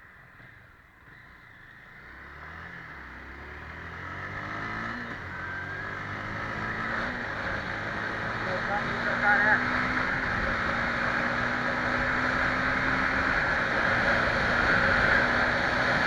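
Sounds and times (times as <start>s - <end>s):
vehicle engine running: 0.3s - 16.0s.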